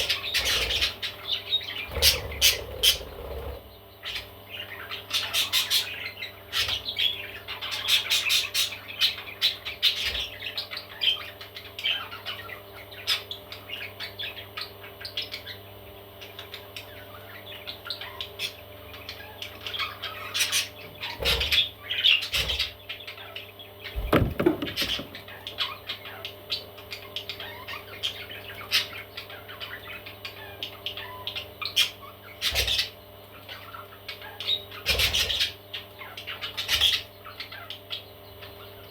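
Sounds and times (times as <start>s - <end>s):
baby parrots chirping and squawking: 0.0s - 38.9s.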